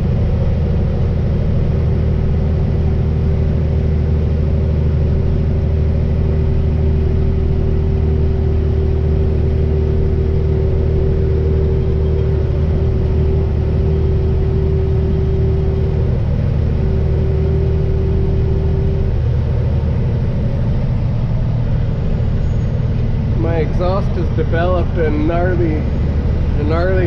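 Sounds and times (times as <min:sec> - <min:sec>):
droning exhaust tone: 0:00.0 - 0:27.0
truck diesel engine running: 0:00.0 - 0:27.0.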